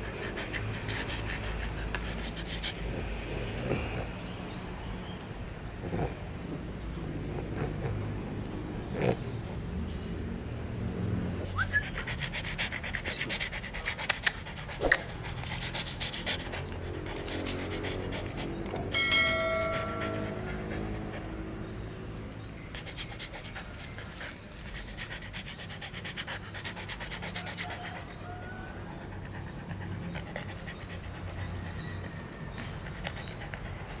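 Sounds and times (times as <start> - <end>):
dog panting: 0.0 - 4.3, 7.0 - 10.4, 11.4 - 34.0.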